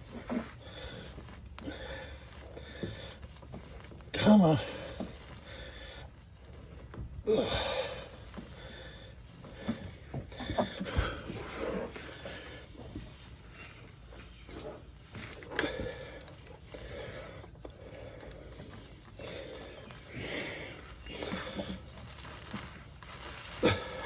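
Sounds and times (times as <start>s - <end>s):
air hissing from tire: 0.0s - 24.0s.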